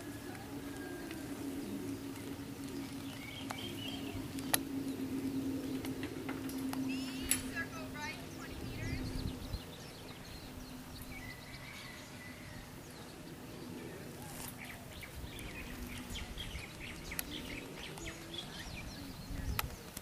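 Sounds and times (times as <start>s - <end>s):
faint outdoor background noise: 0.0s - 20.0s
small birds chirping: 0.0s - 20.0s.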